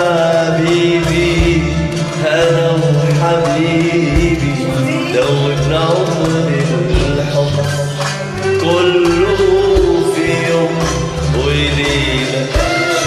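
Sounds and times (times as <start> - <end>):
karaoke backing track: 0.0 - 13.0
man singing into microphone: 0.0 - 13.0.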